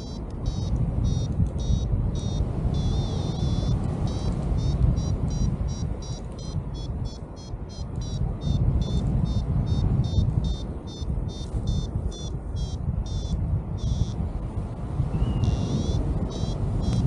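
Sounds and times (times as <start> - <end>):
variometer beeping: 0.0 - 14.2, 15.4 - 17.0
wind rushing on microphone: 0.0 - 17.0.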